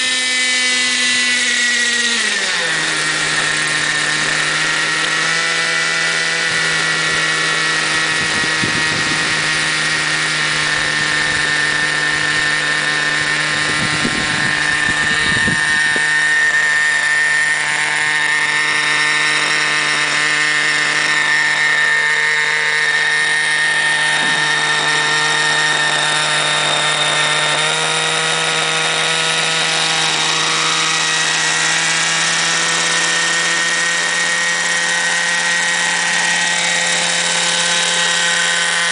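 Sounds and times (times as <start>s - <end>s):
model helicopter engine and rotor drone: 0.0s - 38.9s.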